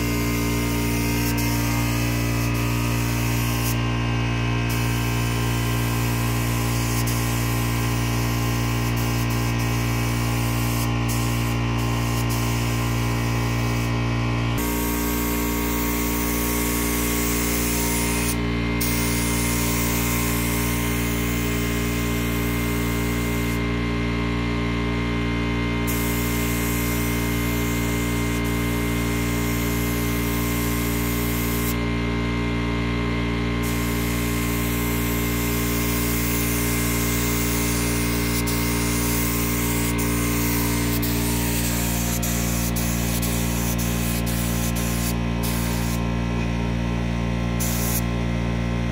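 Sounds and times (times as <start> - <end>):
spray gun hissing: 0.0 - 4.0, 4.7 - 14.0, 14.6 - 23.6, 25.9 - 31.8, 33.6 - 46.1, 47.6 - 48.0
steady low hum: 0.0 - 48.9.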